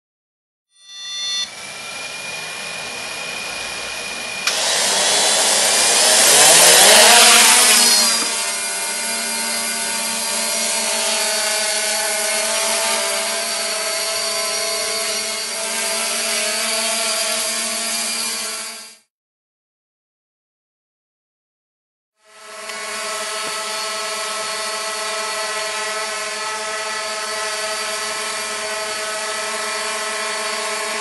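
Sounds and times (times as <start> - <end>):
quadcopter motors whining: 0.8 - 19.1, 22.2 - 31.0.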